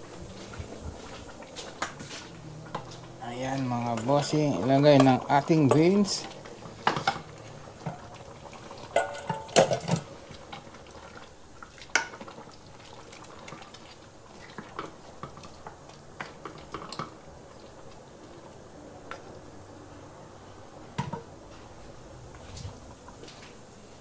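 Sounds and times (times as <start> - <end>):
stew simmering: 0.0 - 24.0.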